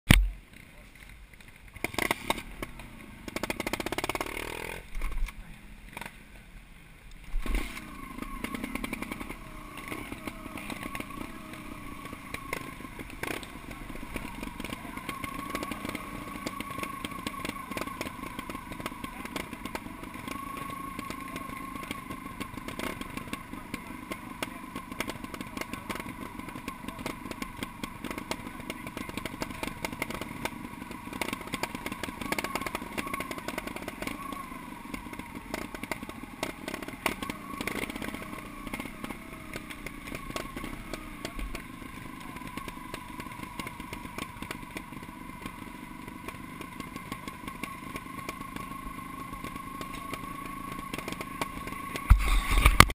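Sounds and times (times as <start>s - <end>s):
motorcycle engines at low revs: 0.1s - 52.9s.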